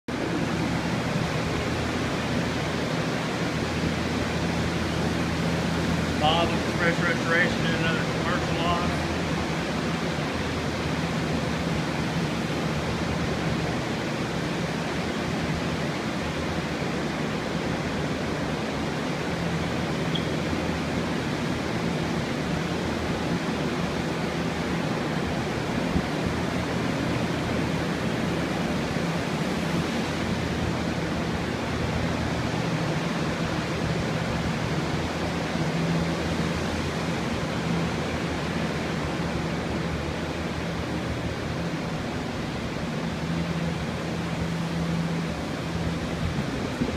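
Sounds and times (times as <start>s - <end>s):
air movers blowing: 0.1s - 46.9s.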